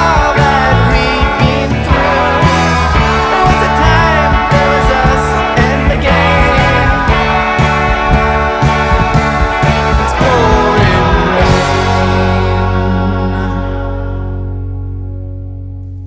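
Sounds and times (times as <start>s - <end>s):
rock band playing: 0.0s - 15.6s.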